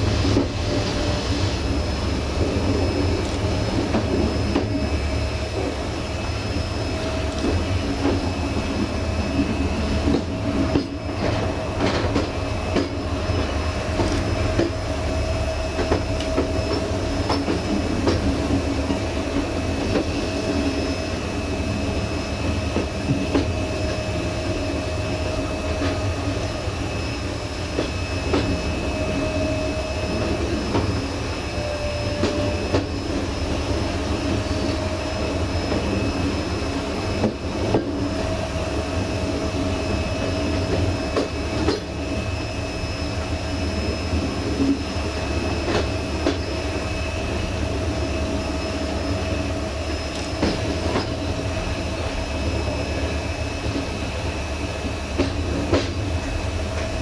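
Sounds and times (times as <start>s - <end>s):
train wheel rumble with whine: 0.0s - 57.0s.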